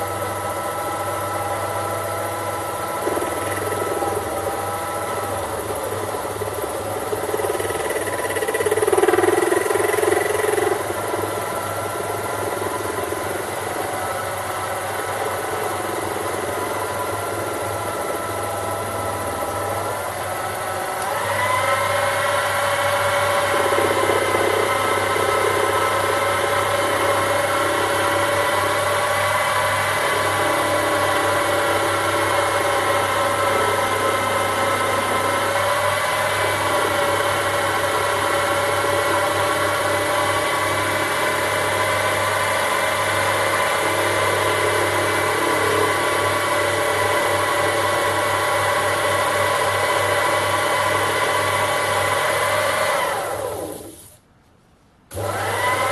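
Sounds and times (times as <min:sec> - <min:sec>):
lathe motor whining: 0:00.0 - 0:54.1, 0:55.1 - 0:55.9.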